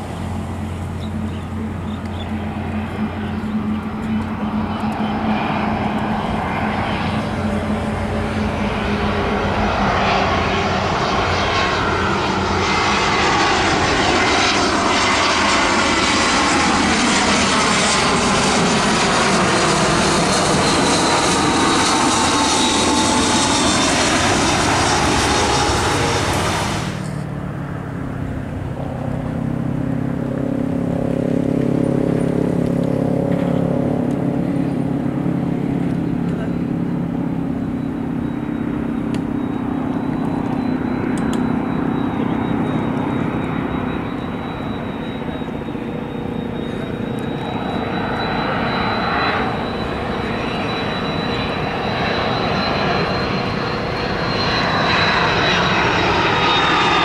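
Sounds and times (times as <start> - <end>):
distant airliner hum: 0.0 - 57.0
jet airliner flying past: 0.0 - 57.0.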